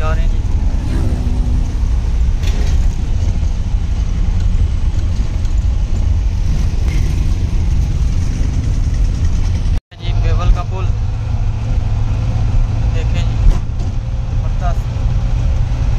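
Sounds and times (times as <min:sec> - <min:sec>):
car engine and road noise: 0:00.0 - 0:15.9.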